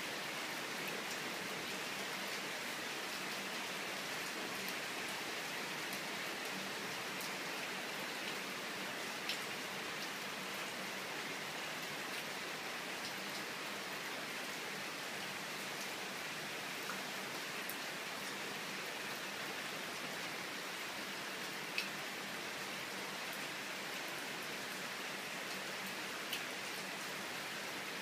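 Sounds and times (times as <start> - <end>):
heavy rain on pavement and roofs: 0.0 - 28.0.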